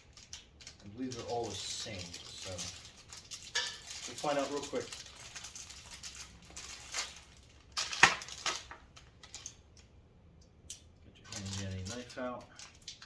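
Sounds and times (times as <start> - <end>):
packaging rustling: 0.0 - 9.6, 11.3 - 13.0.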